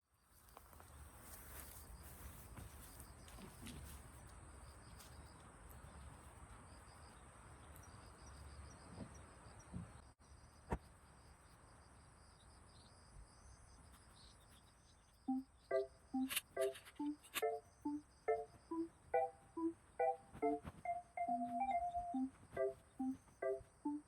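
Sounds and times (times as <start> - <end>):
crickets chirping: 0.2 - 24.0.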